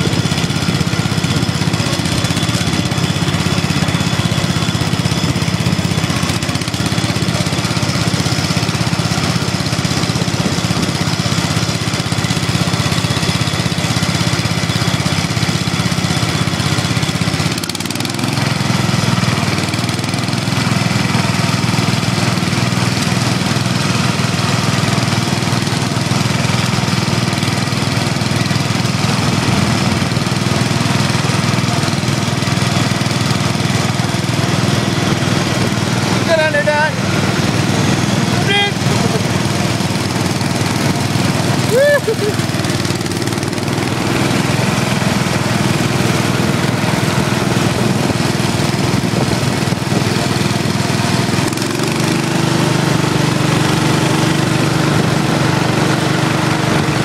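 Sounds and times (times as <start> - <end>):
small tractor engines running: 0.0 - 57.0.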